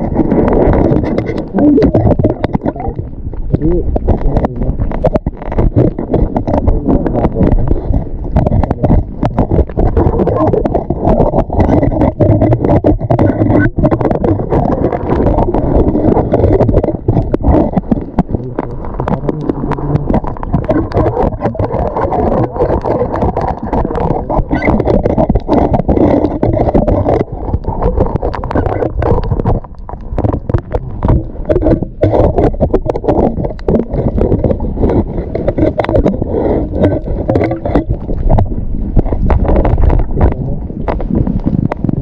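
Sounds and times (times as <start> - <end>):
water sloshing and splashing: 0.0 - 42.0.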